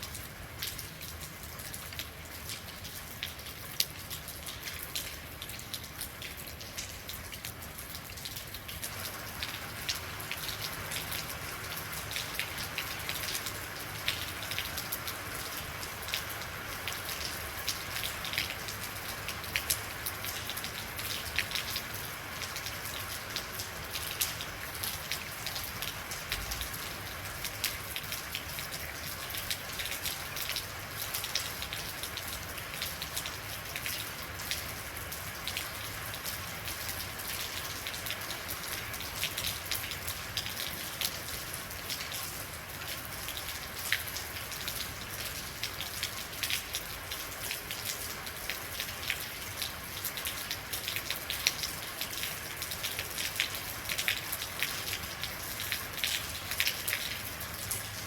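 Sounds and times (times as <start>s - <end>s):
raindrops ticking on hard surfaces: 0.0s - 58.0s
steady rain hiss: 0.0s - 58.0s.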